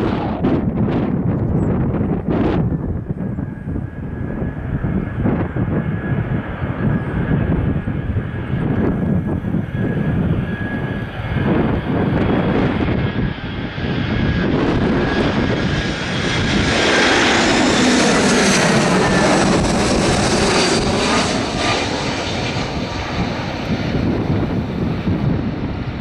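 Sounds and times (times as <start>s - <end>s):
jet engines on approach: 0.0s - 26.0s.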